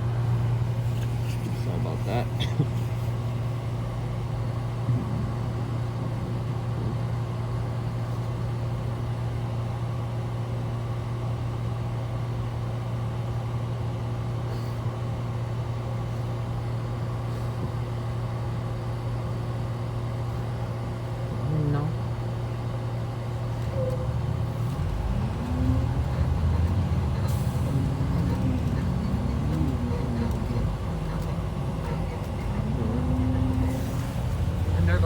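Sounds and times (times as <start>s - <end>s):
road noise: 0.0s - 11.6s, 12.9s - 35.0s
diesel engine drone: 0.0s - 35.0s.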